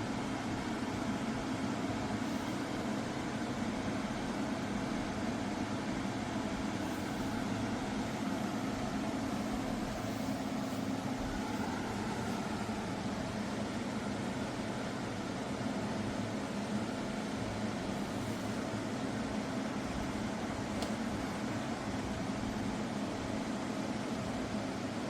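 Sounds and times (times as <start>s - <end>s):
air conditioner fan rushing: 0.0s - 25.0s
constant low hum: 0.0s - 25.0s.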